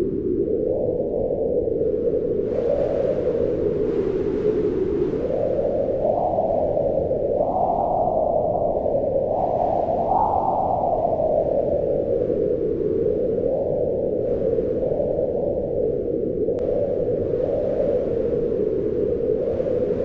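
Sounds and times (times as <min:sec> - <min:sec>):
howling wind: 0:00.0 - 0:20.0.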